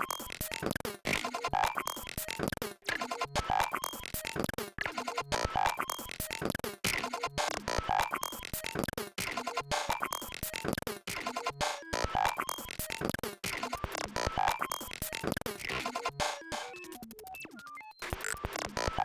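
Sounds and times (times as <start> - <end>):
glitchy electronic drum loop: 0.0 - 19.0.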